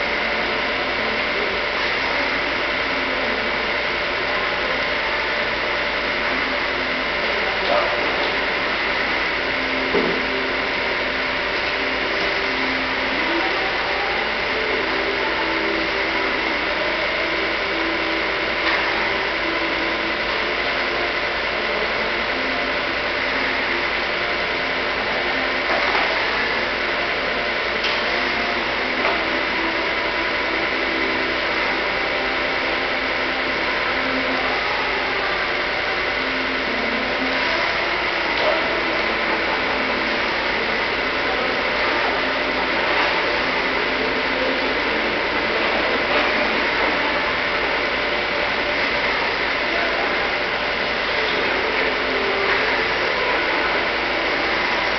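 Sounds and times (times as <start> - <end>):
high whine: 0.0 - 54.9
milling machine motor hum: 0.0 - 54.9.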